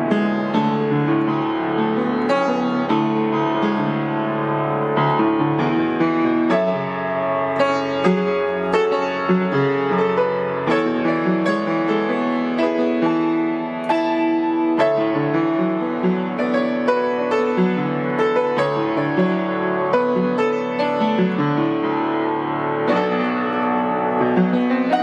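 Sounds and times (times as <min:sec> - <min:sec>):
solo piano: 0:00.0 - 0:25.0.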